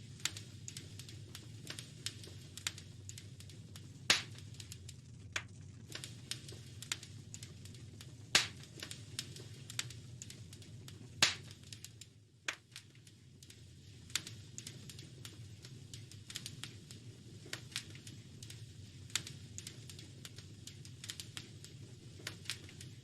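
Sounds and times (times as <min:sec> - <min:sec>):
low steady rumble: 0:00.0 - 0:23.0
wood fire crackling: 0:00.0 - 0:23.0
loud fire pops: 0:00.1 - 0:23.0.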